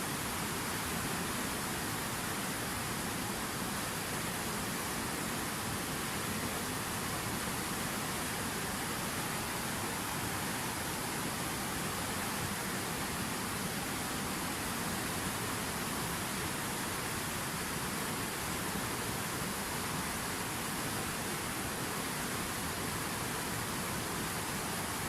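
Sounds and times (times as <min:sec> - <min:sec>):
fountain waterfall rushing: 0:00.0 - 0:25.0.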